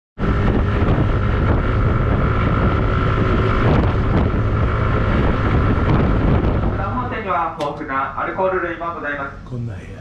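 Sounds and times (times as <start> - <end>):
ferry engines rumbling: 0.2 - 10.0.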